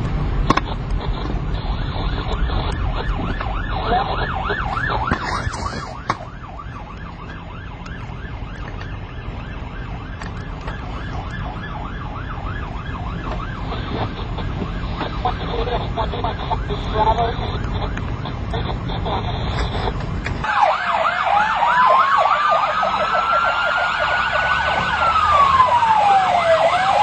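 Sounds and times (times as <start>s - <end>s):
low vehicle rumble: 0.0s - 27.0s
police siren yelping: 0.5s - 27.0s.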